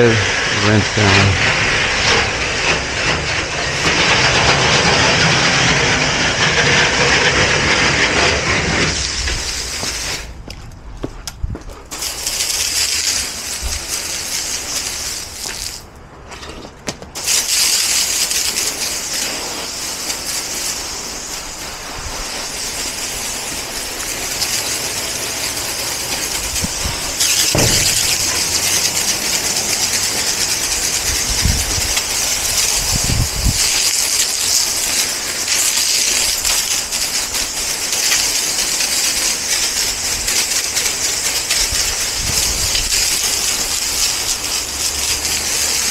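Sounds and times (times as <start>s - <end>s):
water spraying onto concrete: 0.0s - 45.9s.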